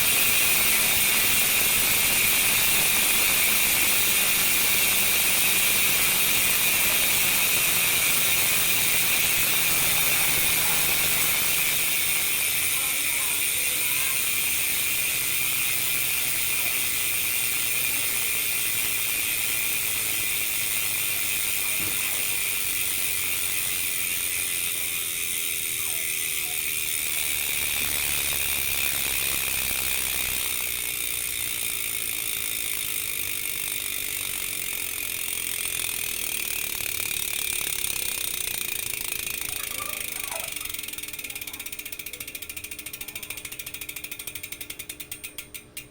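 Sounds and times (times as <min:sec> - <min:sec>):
bicycle hub freewheel ratcheting: 0:00.0 - 0:45.9.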